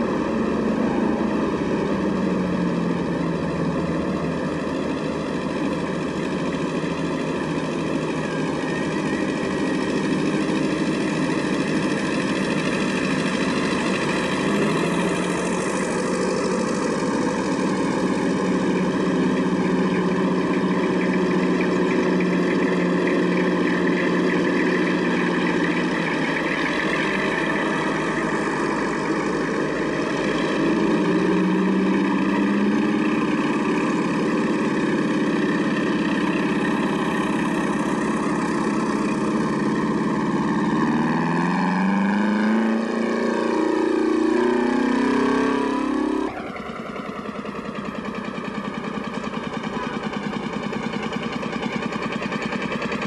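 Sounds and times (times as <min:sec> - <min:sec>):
tractor engines driving past: 0:00.0 - 0:53.0.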